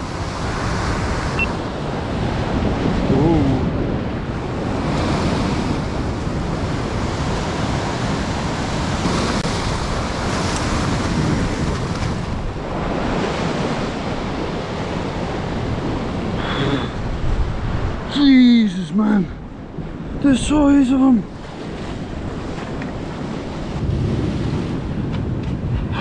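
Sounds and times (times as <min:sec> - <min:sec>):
wind on microphone: 0:00.0 - 0:18.1, 0:19.2 - 0:26.0
sea surf washing: 0:00.0 - 0:26.0.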